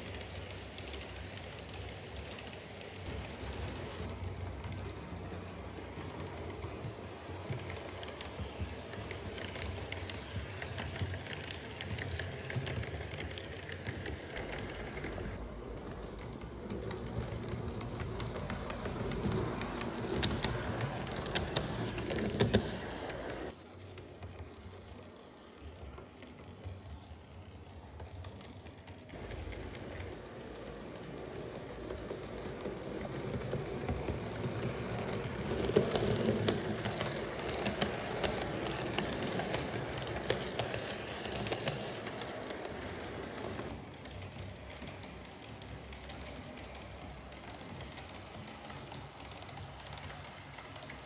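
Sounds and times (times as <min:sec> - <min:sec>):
model train wheels clicking on rails: 0:00.0 - 0:51.0.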